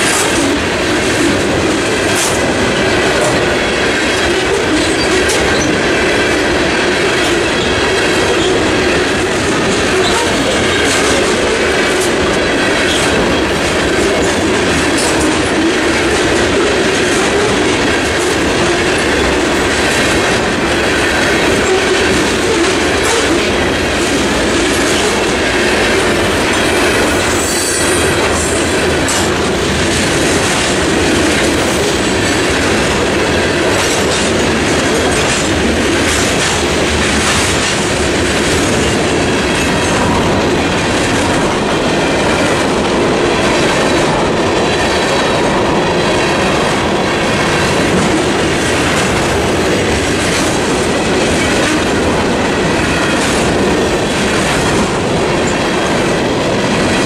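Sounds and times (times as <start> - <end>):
freight train wheels rumbling on rail: 0.0 - 57.0
rail clacks: 0.0 - 57.0.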